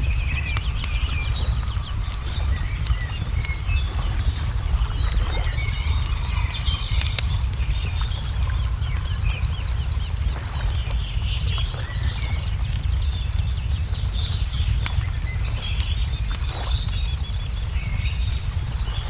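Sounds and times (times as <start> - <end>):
small birds chirping: 0.0 - 19.0
steady low rumble: 0.0 - 19.0
wood fire crackling and popping: 0.0 - 19.0.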